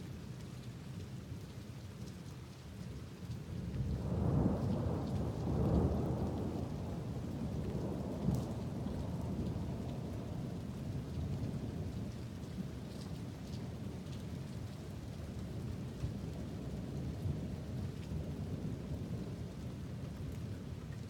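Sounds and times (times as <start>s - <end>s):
rain falling: 0.0s - 21.0s
low rumble of thunder: 3.4s - 21.0s.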